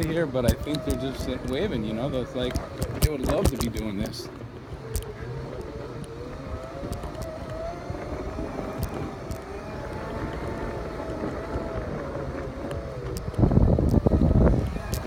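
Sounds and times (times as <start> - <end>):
electric motors whining: 0.0 - 15.0
rumble and knocks on rough ground: 0.0 - 15.0.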